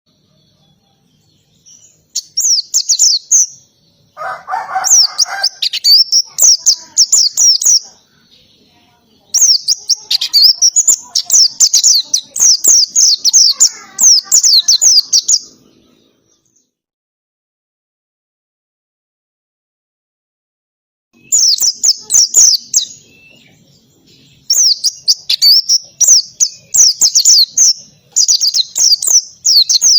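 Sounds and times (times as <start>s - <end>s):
bird singing rapid high phrases: 0.1s - 16.8s, 21.2s - 29.9s.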